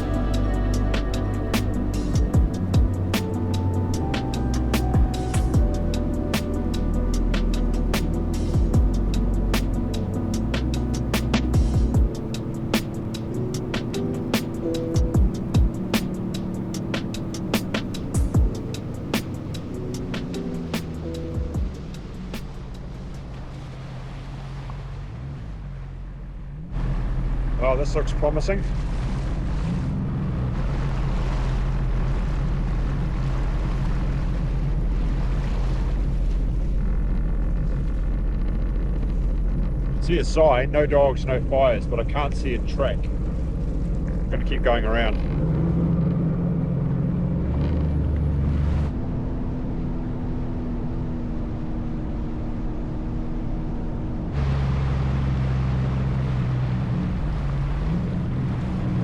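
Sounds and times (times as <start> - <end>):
jetski engine running: 0.0 - 59.0
water against hull: 0.0 - 59.0.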